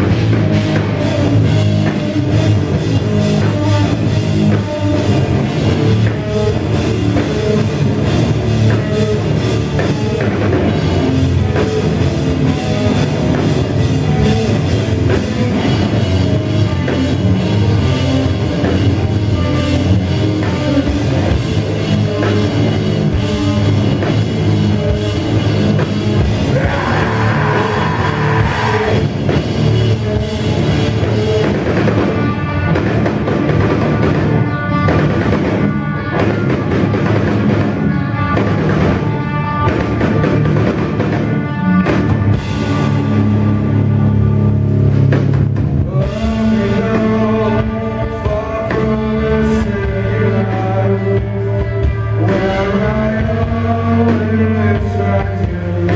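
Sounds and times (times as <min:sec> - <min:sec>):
bass guitar: 0:00.0 - 0:55.9
distorted electric guitars: 0:00.0 - 0:55.9
drum kit: 0:00.0 - 0:55.9.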